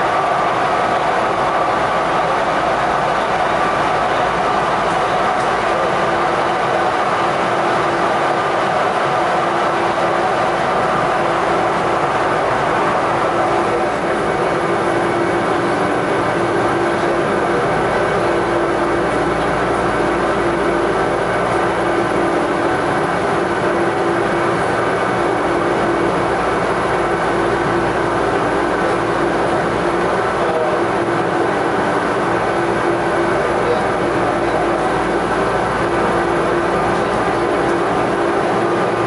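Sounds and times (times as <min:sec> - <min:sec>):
light-metro car running drone: 0:00.0 - 0:39.0.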